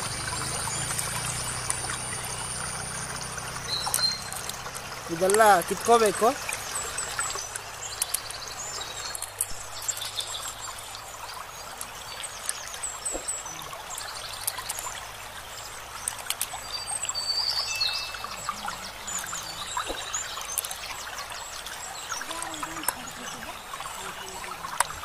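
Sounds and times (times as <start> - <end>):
small birds chirping: 0.0 - 25.0
stream water running: 0.0 - 25.0.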